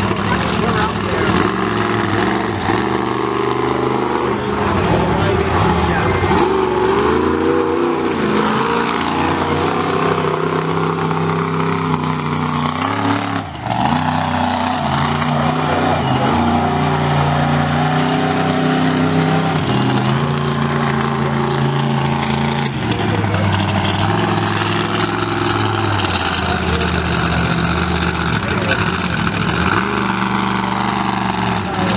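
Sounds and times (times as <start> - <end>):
monster truck engine revving: 0.0 - 31.9.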